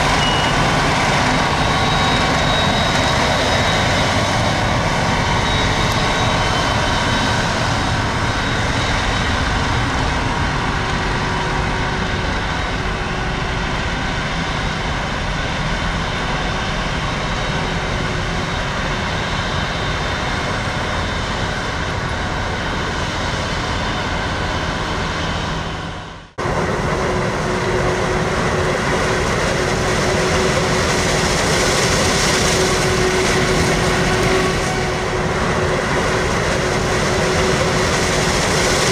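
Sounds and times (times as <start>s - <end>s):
tractor engines: 0.0s - 38.9s.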